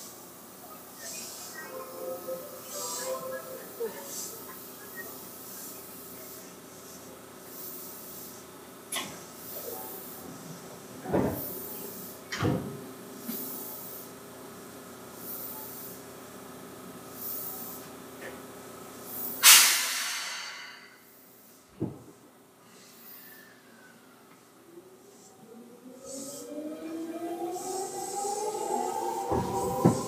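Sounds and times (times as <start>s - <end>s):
train car low hum: 0.0s - 30.0s.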